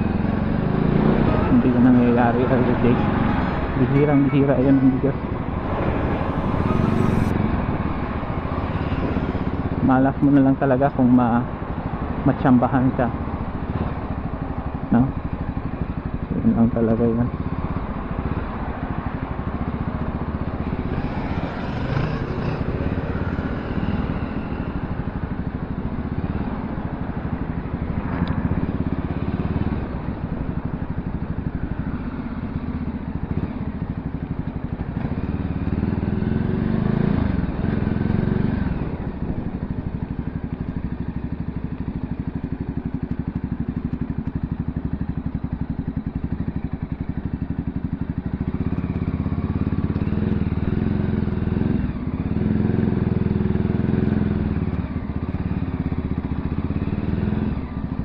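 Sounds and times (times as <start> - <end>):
motorcycle engine running: 0.0 - 58.0
road noise: 0.0 - 58.0.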